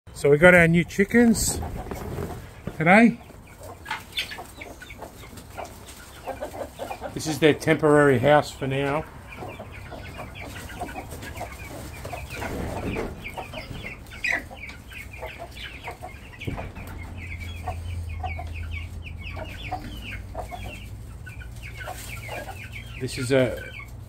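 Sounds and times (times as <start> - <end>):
chickens clucking and chirping: 0.1 - 24.0.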